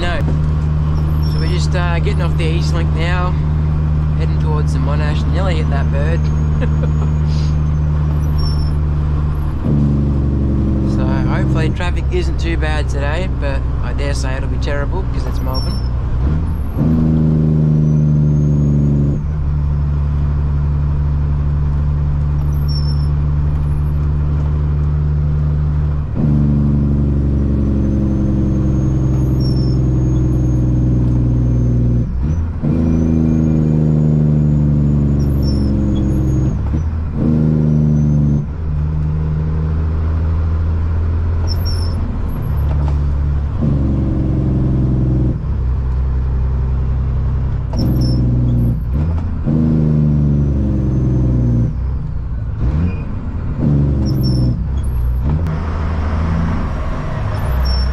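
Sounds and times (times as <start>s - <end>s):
truck diesel engine accelerating: 0.0s - 57.9s.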